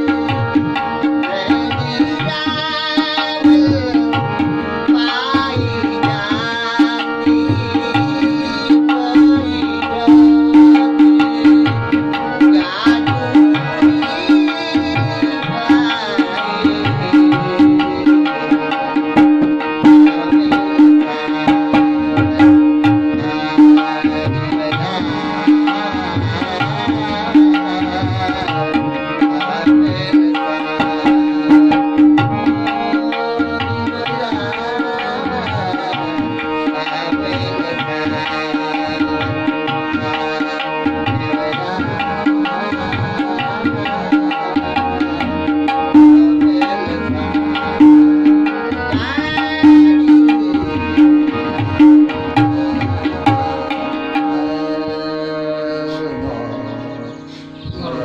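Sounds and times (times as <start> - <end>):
harmonium holding tones: 0.0 - 58.0
man singing: 0.0 - 58.0
tabla beat: 0.0 - 58.0.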